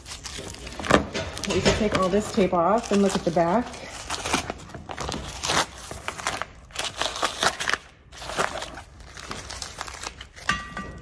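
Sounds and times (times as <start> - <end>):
tape peeling and crumpling: 0.0 - 10.5.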